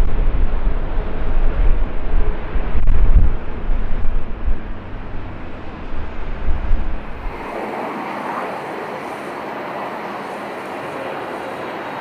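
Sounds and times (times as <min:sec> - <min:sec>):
jet engines rumbling: 0:00.0 - 0:12.0
rushing jet noise: 0:00.0 - 0:12.0
wind buffeting microphone: 0:00.0 - 0:12.0.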